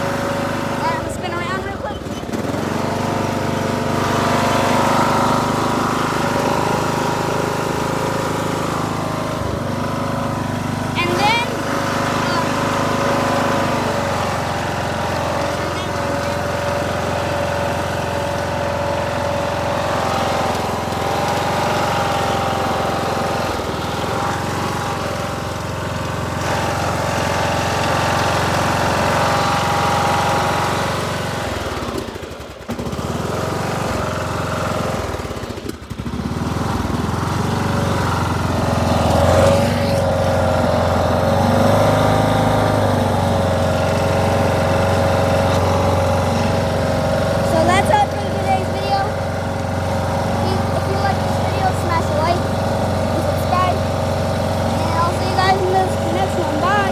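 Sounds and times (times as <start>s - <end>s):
riding lawn mower engine: 0.0s - 56.9s.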